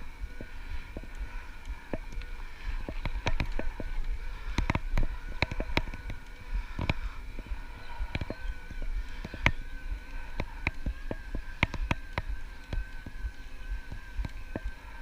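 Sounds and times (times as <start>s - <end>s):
electric motor whine: 0.0s - 15.0s
wind rumble on microphone: 0.0s - 15.0s.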